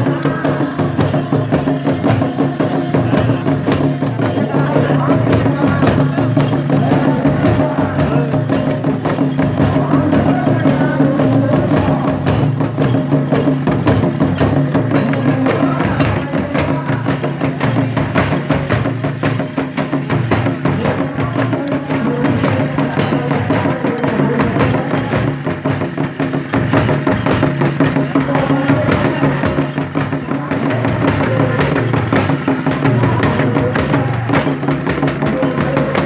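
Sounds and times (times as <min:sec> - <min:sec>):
group of voices singing: 0:00.0 - 0:18.9, 0:20.4 - 0:36.0
hand drums beaten fast: 0:00.0 - 0:36.0.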